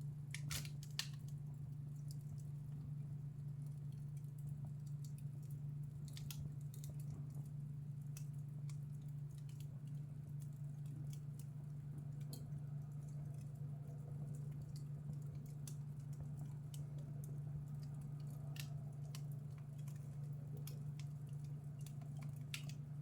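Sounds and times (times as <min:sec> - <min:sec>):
steady low hum: 0:00.0 - 0:23.0
wood fire crackling: 0:00.0 - 0:23.0.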